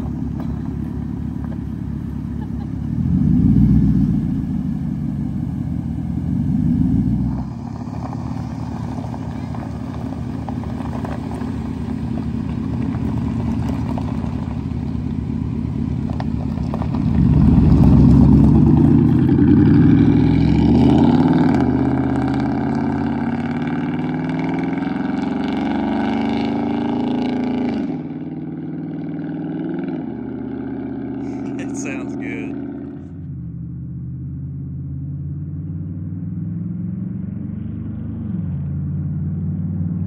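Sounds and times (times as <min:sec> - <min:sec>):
truck engine accelerating: 0:00.0 - 0:40.0.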